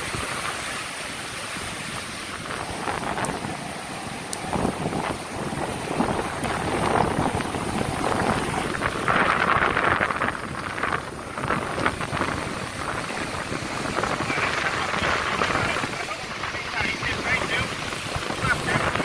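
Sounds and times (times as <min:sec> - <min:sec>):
surf breaking and washing: 0:00.0 - 0:19.0
wind buffeting microphone: 0:00.0 - 0:19.0.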